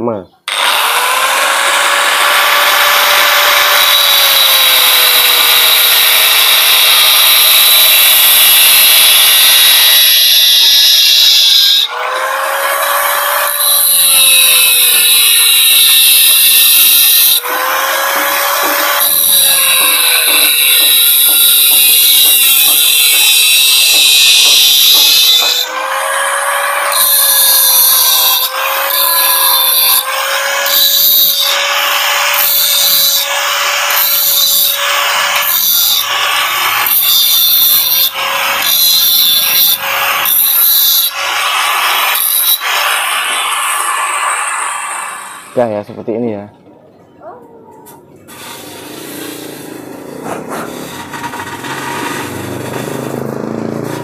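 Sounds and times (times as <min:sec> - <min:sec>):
angle grinder cutting metal: 0:00.5 - 0:45.9, 0:47.9 - 0:54.0.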